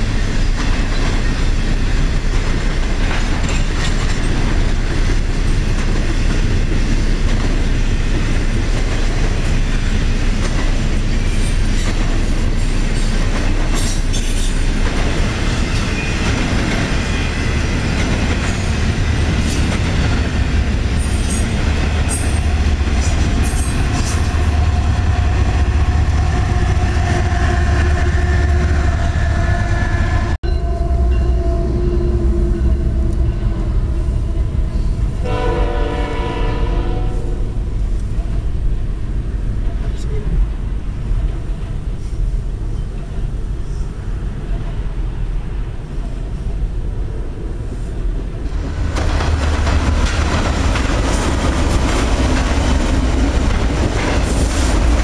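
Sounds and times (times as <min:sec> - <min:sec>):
freight train wheels clattering: 0:00.0 - 0:30.4, 0:31.3 - 0:55.0.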